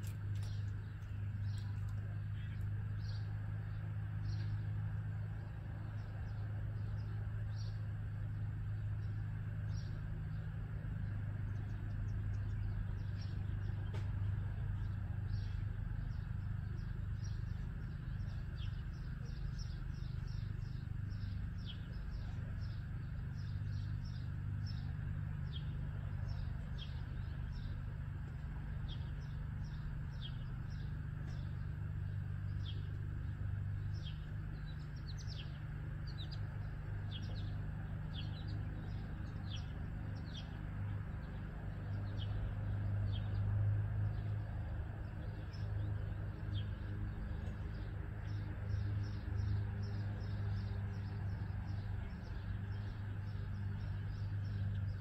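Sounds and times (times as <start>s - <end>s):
low mechanical hum: 0.0s - 55.0s
small birds chirping: 0.0s - 55.0s.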